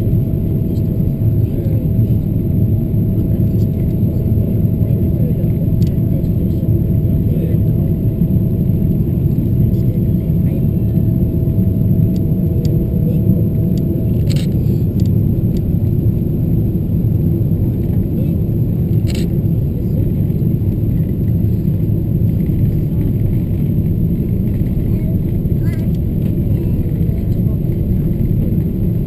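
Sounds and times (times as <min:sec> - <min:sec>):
aircraft engine and airflow rumble: 0:00.0 - 0:29.0.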